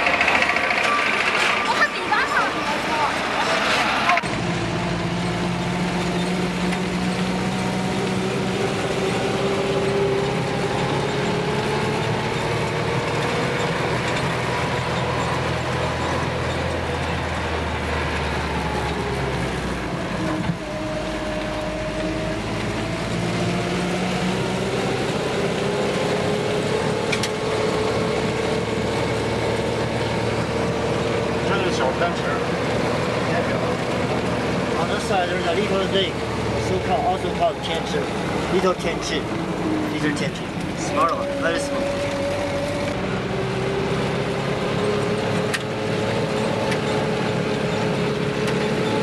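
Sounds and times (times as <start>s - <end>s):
car engine: 0.0s - 49.0s
road noise: 0.0s - 49.0s.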